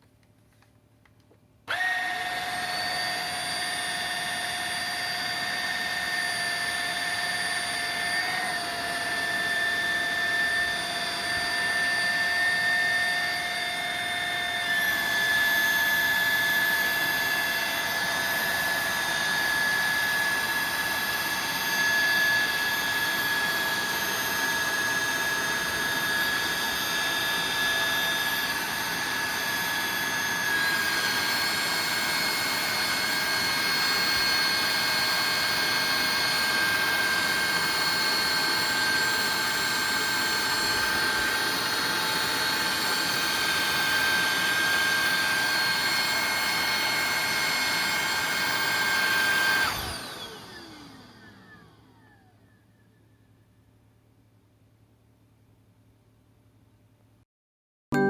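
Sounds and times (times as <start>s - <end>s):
vacuum cleaner motor whine: 1.6s - 53.3s.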